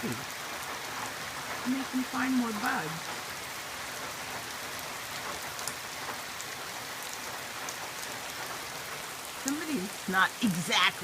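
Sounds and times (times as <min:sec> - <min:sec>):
heavy rain hissing: 0:00.0 - 0:11.0
raindrops pattering: 0:00.0 - 0:11.0.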